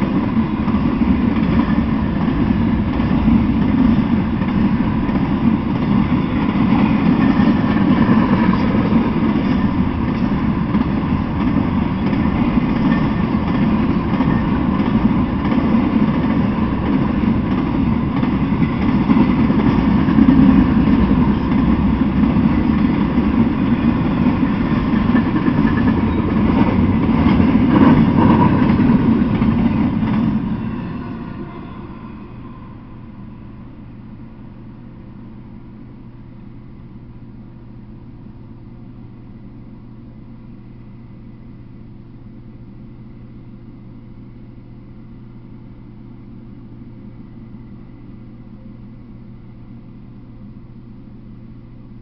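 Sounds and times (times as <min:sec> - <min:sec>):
freight train wheels rumbling: 0:00.0 - 0:50.0.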